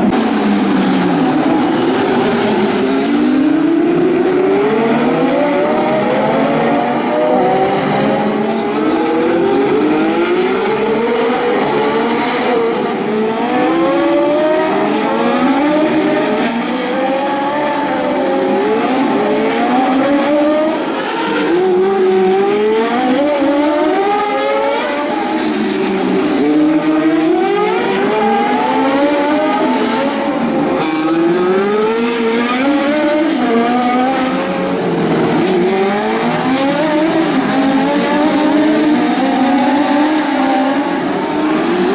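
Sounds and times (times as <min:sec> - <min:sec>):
racing car engines revving: 0:00.0 - 0:41.9.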